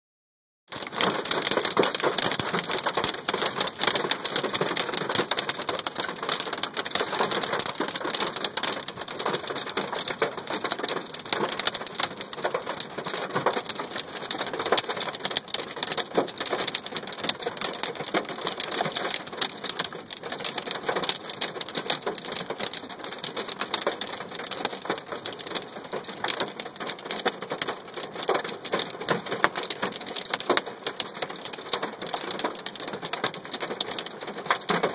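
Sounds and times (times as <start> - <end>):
hailstones clattering on surfaces: 0.7 - 34.9
rain falling hard: 0.7 - 34.9.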